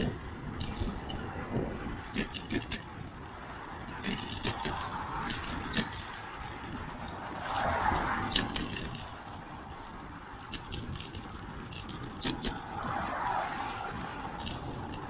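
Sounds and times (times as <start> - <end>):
bicycle rattling over pavement: 0.0 - 15.0
car passing: 0.0 - 15.0
wind rumble on microphone: 0.0 - 15.0.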